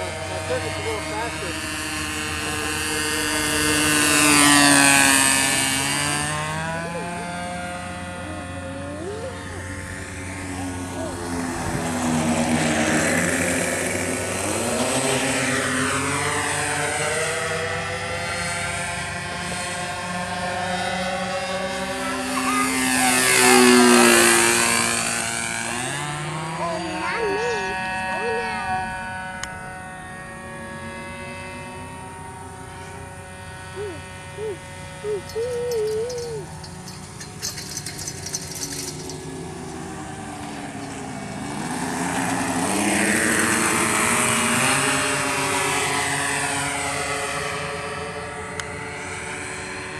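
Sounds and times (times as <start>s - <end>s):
model airplane engine buzzing: 0.0s - 49.9s.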